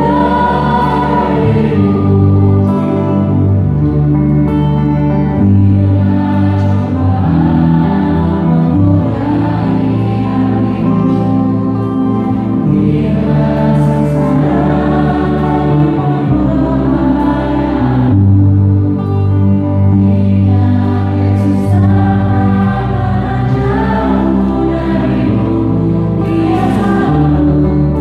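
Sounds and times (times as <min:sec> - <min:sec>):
women singing in harmony: 0:00.0 - 0:04.0, 0:05.2 - 0:28.0
bass: 0:00.0 - 0:28.0
electric guitar: 0:00.0 - 0:28.0
keyboard: 0:00.0 - 0:28.0.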